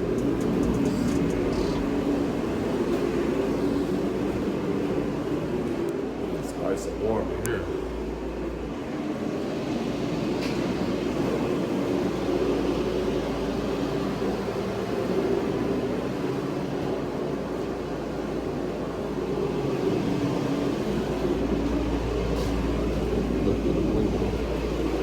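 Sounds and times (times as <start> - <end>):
gas space heater whooshing hum: 0.0 - 25.0.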